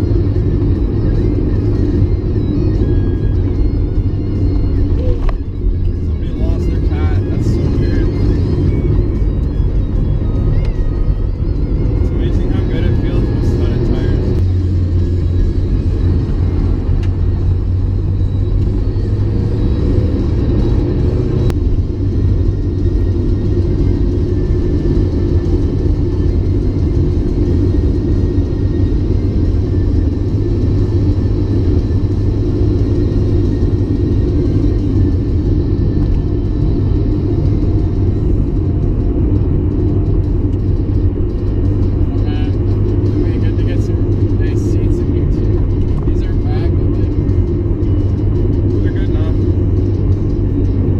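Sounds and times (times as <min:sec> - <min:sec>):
car engine rumble: 0:00.0 - 0:50.9
road noise: 0:00.0 - 0:50.9.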